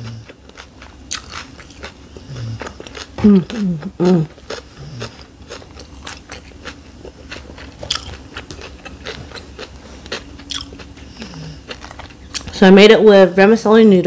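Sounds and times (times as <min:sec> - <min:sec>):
chewing with wet mouth clicks: 0:00.0 - 0:12.6.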